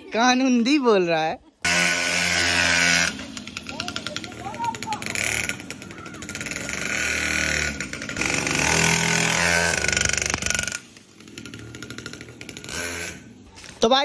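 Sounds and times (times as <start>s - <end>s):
small motorbike engine revving: 1.6s - 13.8s.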